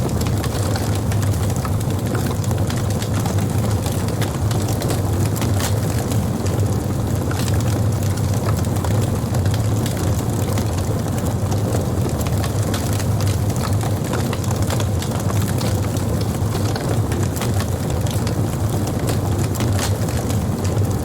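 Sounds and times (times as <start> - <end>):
campfire flames rumbling: 0.0 - 21.0
fire crackling and popping: 0.0 - 21.0.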